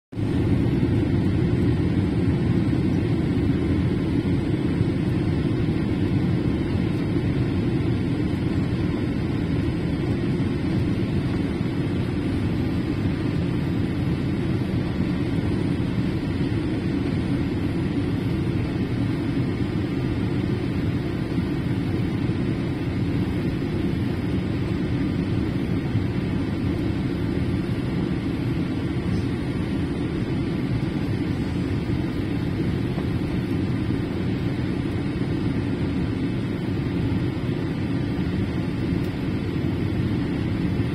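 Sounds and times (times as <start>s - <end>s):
airflow and engine noise: 0.1s - 40.9s
faint steady whine: 0.2s - 40.9s.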